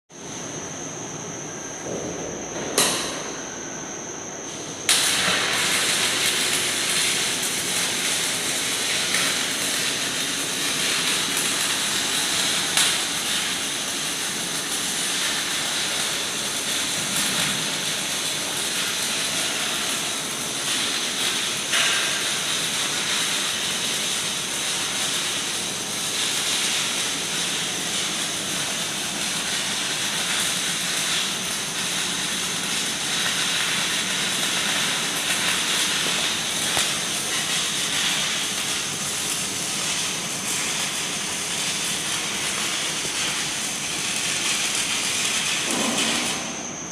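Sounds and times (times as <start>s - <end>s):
welding arc crackling hiss: 4.5s - 46.9s.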